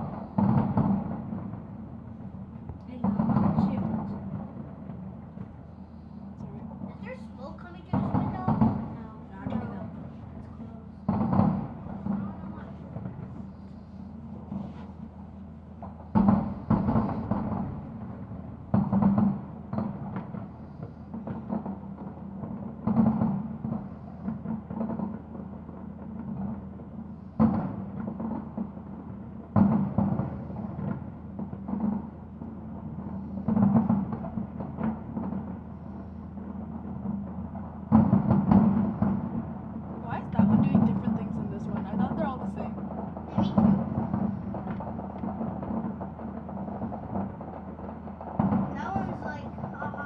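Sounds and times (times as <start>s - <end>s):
fireworks booming: 0.0s - 50.0s
fireworks popping and crackling: 0.0s - 50.0s.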